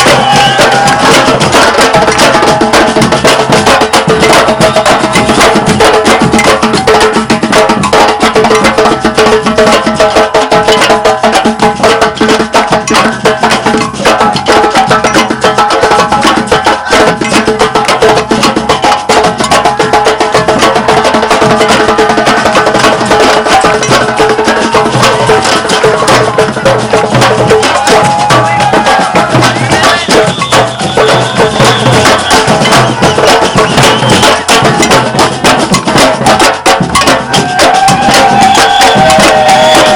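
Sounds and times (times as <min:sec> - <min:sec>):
samba percussion drums: 0:00.0 - 0:39.9.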